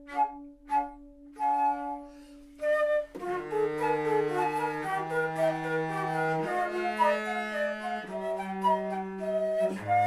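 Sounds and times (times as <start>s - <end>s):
wooden flutes playing: 0.0s - 10.0s.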